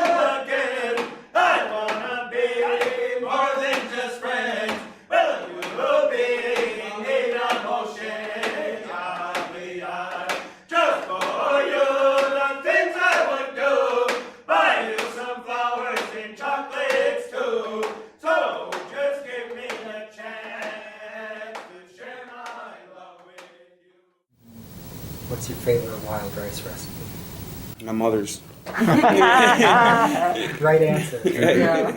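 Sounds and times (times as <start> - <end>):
men chanting together: 0.0 - 24.0, 28.8 - 31.9.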